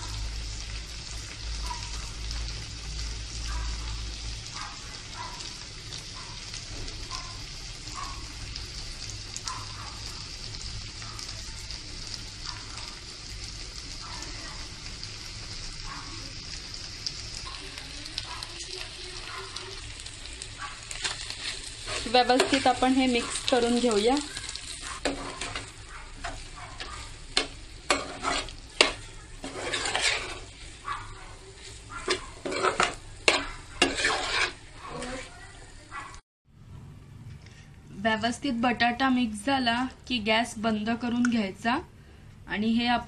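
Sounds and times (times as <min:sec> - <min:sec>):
chicken sizzling in a pan: 0:00.0 - 0:36.2.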